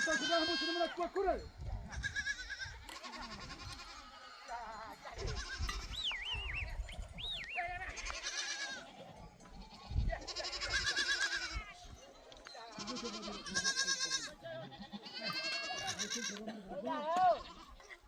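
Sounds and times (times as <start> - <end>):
goats bleating: 0.0 - 1.2, 1.8 - 6.1, 7.6 - 11.9, 12.6 - 18.0.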